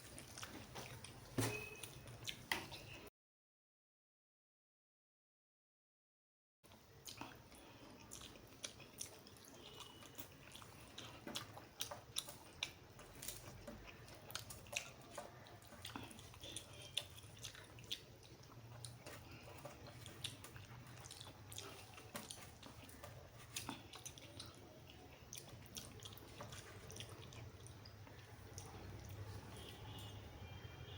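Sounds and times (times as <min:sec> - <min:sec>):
close chewing with mouth smacks: 0:00.0 - 0:03.1, 0:06.7 - 0:30.2.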